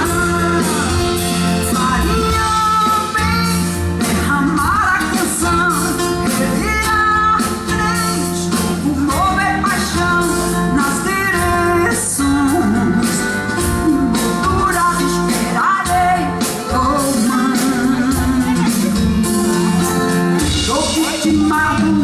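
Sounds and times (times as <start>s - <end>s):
live band playing: 0.0s - 22.0s
person singing: 0.0s - 22.0s.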